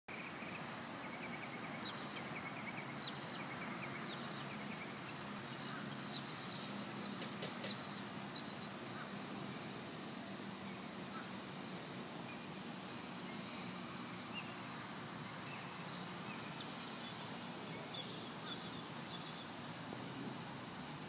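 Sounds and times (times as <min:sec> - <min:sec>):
small birds chirping: 0:00.1 - 0:20.1
steady background hiss: 0:00.1 - 0:21.0.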